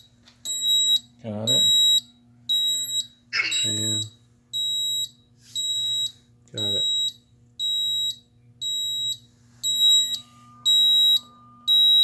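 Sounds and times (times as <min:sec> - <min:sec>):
fire alarm panel beeping: 0:00.0 - 0:12.0.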